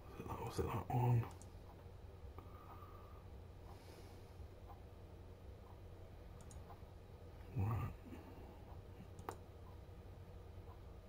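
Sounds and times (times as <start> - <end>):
low steady room hum: 0.0 - 11.0.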